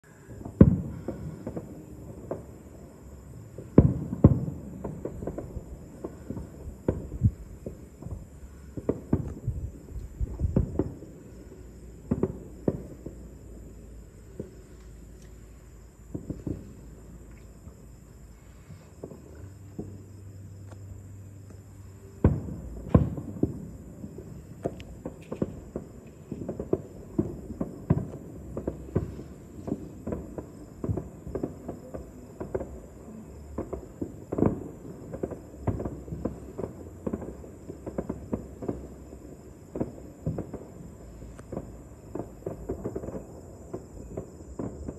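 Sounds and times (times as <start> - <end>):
distant fireworks booming: 0.0 - 20.6, 21.6 - 44.9
crickets chirring: 0.0 - 44.9.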